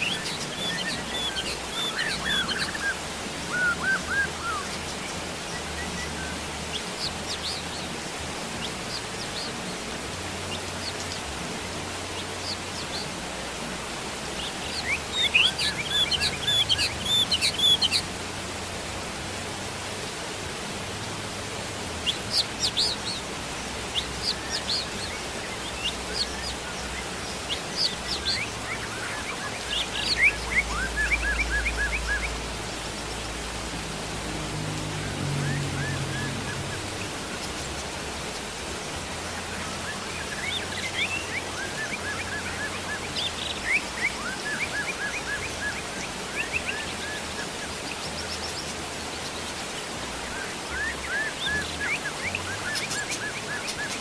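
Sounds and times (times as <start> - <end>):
small birds chirping: 0.0 - 54.0
steady rain: 0.0 - 54.0.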